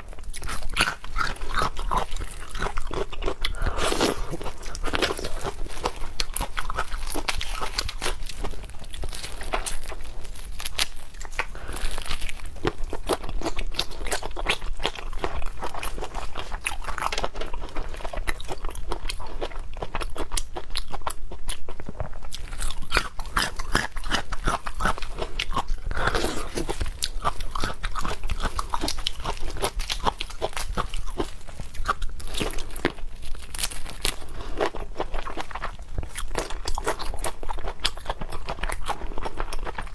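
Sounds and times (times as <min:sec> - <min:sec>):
person chewing with crunches: 0:00.0 - 0:39.9.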